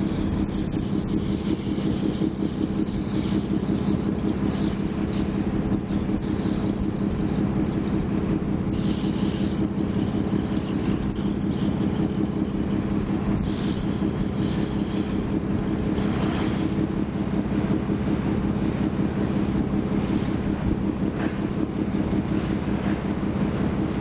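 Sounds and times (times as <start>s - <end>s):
ferry engine drone: 0.0s - 24.0s.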